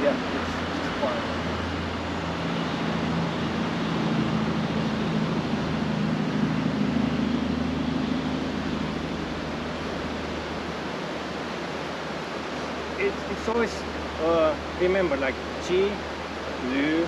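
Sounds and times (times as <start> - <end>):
low hum: 0.0 - 17.0
rushing outdoor noise: 0.0 - 17.0.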